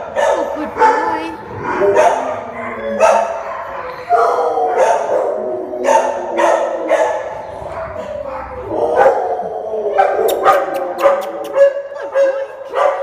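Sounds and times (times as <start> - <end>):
dog barking with echo: 0.0 - 13.0.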